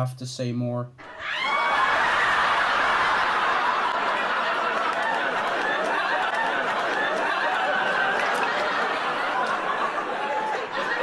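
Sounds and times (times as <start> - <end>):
audience laughing loudly: 1.0 - 11.0.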